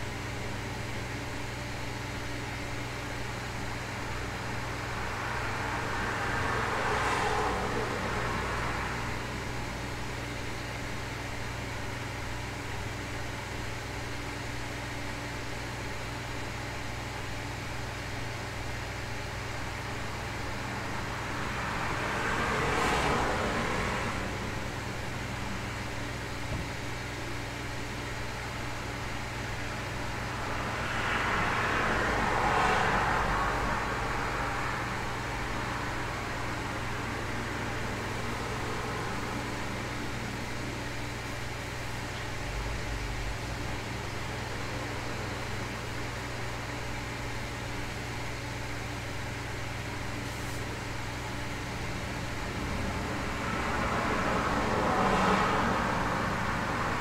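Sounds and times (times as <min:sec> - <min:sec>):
cars passing outside: 0:00.0 - 0:57.0
low hum and hiss: 0:00.0 - 0:57.0.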